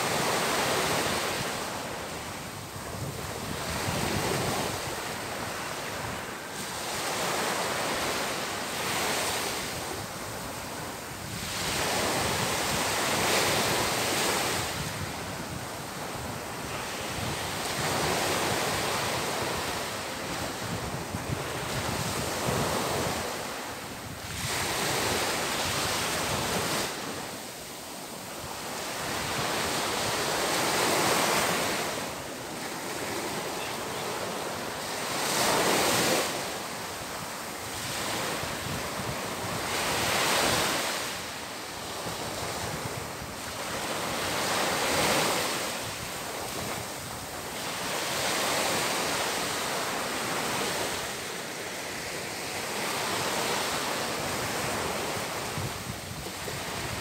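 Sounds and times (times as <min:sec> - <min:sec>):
small waves breaking on sand: 0:00.0 - 0:57.0.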